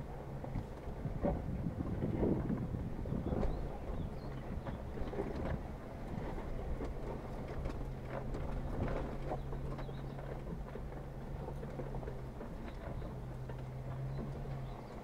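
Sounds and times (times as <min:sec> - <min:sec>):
engine running low: 0:00.0 - 0:15.0.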